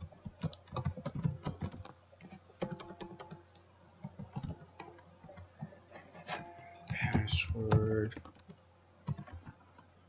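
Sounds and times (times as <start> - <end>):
keyboard typing clicks: 0.0 - 5.7, 6.8 - 9.6.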